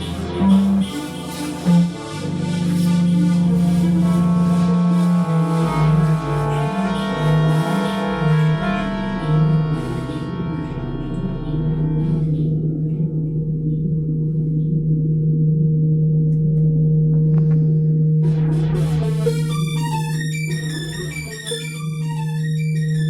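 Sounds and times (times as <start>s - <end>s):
electronic music with deep drone: 0.0s - 23.0s.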